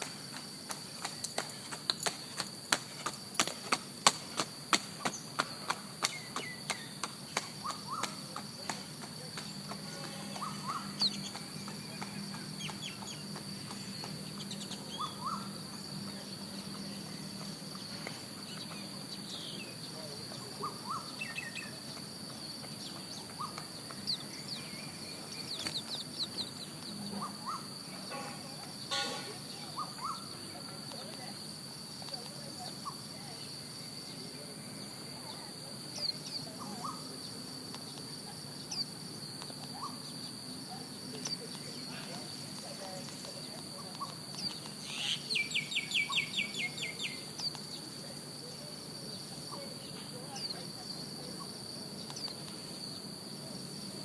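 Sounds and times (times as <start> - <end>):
small birds chirping: 0.0 - 54.0
steady high-pitched hum: 0.0 - 54.0.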